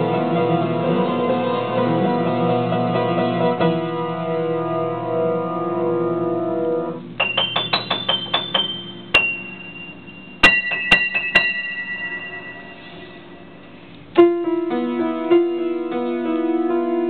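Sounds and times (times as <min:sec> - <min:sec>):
solo piano: 0:00.0 - 0:17.0.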